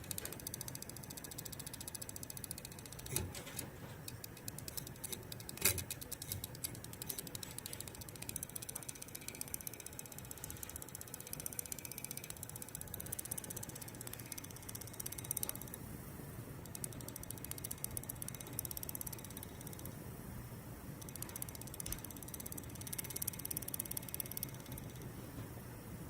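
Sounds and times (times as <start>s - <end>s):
loud fan clicks: 0.0s - 15.8s, 16.6s - 20.0s, 21.0s - 25.1s
fans ticking rapidly: 0.0s - 20.0s, 20.9s - 25.2s.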